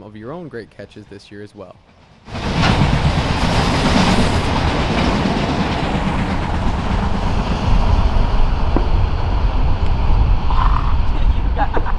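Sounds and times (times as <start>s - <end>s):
train wheels rumbling on rail: 1.6s - 11.9s.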